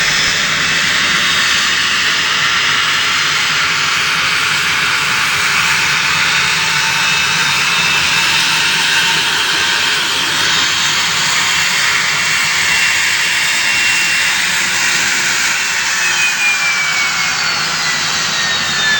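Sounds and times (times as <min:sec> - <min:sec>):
jet engines hissing and whining: 0:00.0 - 0:18.9.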